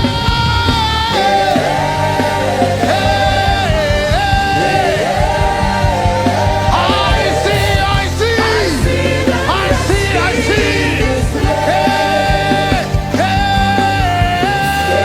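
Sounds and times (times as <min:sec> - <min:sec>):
low musical accompaniment: 0:00.0 - 0:15.0.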